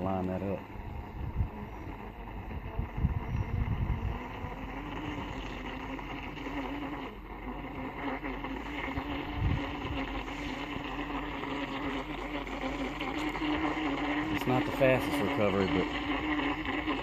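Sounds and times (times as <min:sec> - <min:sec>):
wind buffeting microphone: 0:00.0 - 0:06.9, 0:08.5 - 0:17.0
boat motor whining: 0:00.0 - 0:17.0.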